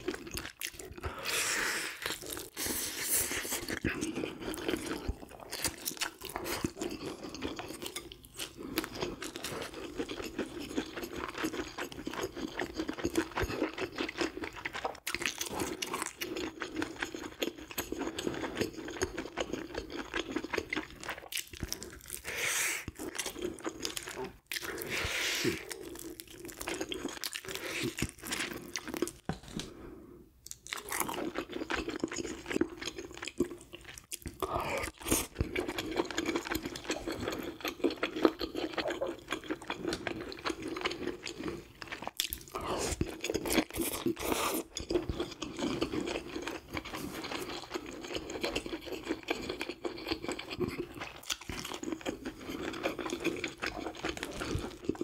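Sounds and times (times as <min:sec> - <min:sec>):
chewing and crunching fish: 0:00.0 - 0:01.2, 0:03.4 - 0:29.7, 0:30.5 - 0:55.0.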